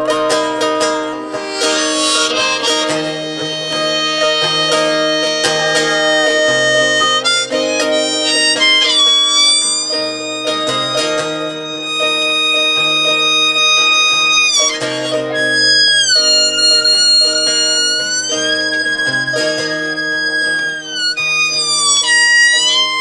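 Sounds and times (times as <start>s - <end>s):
guitar accompaniment: 0.0s - 23.0s
harmonica wailing notes: 0.0s - 23.0s.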